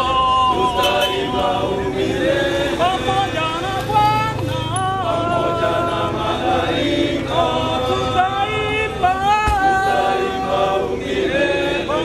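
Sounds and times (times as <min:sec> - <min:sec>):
group singing chant-like hymn: 0:00.0 - 0:12.0.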